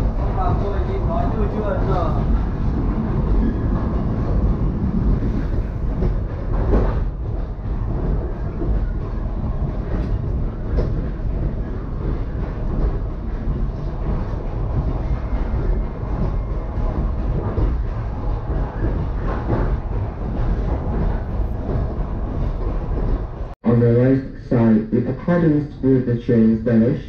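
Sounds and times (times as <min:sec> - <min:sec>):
wheels knocking on rails: 0:00.0 - 0:23.6
train rumbling on track: 0:00.0 - 0:27.0.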